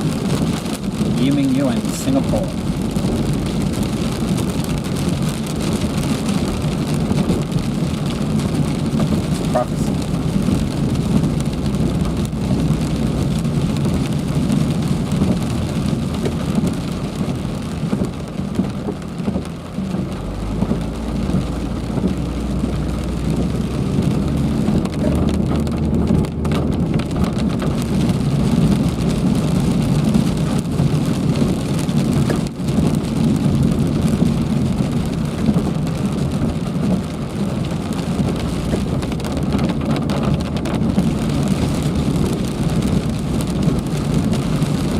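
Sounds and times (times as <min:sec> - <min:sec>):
heavy rain falling: 0:00.0 - 0:44.9
low rumble: 0:00.0 - 0:44.9.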